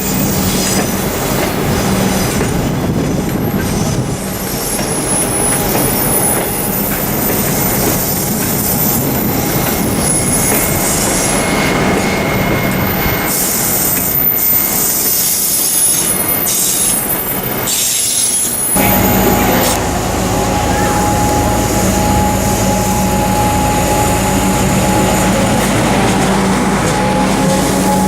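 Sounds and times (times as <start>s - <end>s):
train wheel and rail noise: 0.0s - 28.0s.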